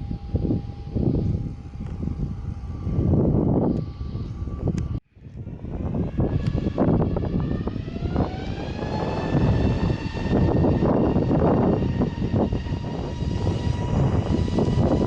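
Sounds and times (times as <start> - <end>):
heavy rumble: 0.0 - 15.0
jet engines whining: 0.0 - 15.0.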